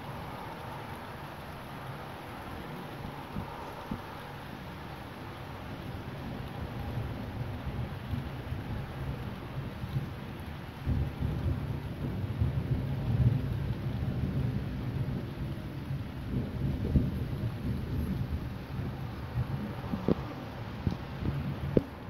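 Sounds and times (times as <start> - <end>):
rain: 0.0 - 22.0
thunder rumbling: 0.0 - 22.0.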